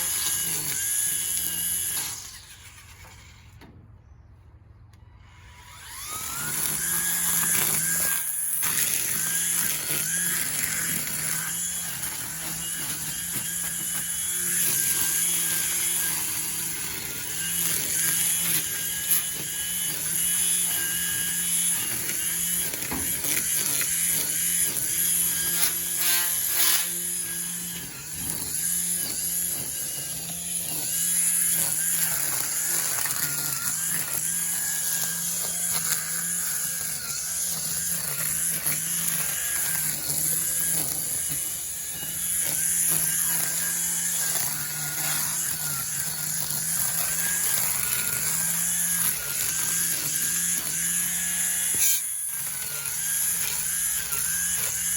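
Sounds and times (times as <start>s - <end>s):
string trimmers cutting grass: 0.0s - 3.7s, 5.0s - 54.9s.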